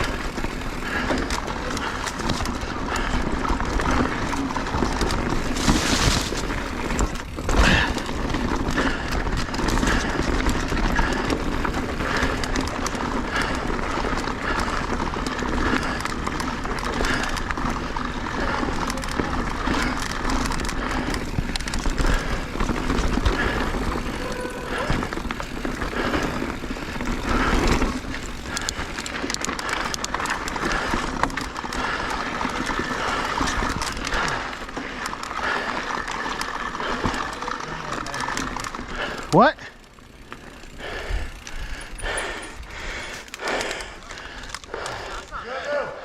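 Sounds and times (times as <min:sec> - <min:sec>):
bike knocking and rattling: 0:00.0 - 0:45.8
bike tyres on rocky trail: 0:00.0 - 0:46.0.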